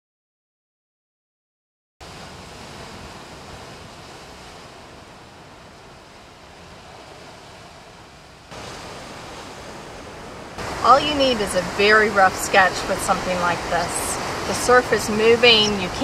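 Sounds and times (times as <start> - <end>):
surf on rocky shore: 2.0 - 16.0.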